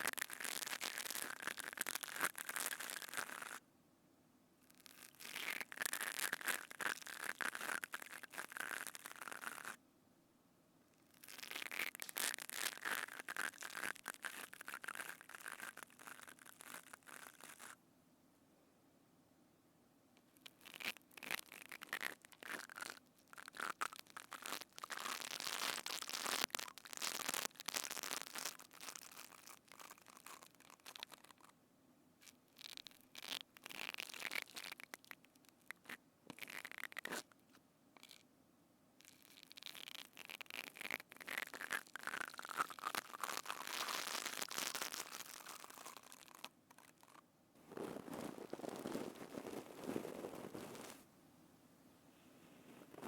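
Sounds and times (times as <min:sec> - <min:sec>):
scratching and crackling on microphone: 0:00.0 - 0:03.6, 0:04.7 - 0:09.8, 0:11.1 - 0:17.8, 0:20.2 - 0:31.5, 0:32.2 - 0:38.2, 0:39.0 - 0:51.1, 0:52.2 - 0:53.0.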